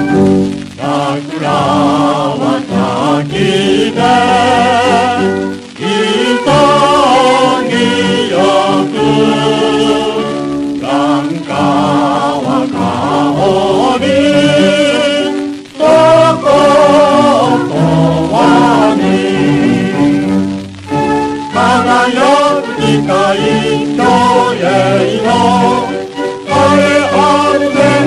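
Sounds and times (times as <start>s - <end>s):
song with sung vocals: 0.0s - 28.0s.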